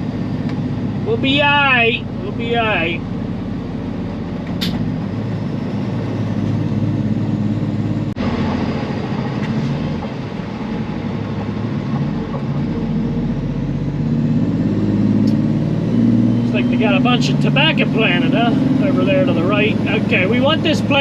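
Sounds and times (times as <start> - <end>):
road noise: 0.0 - 21.0
truck diesel engine running: 0.0 - 21.0.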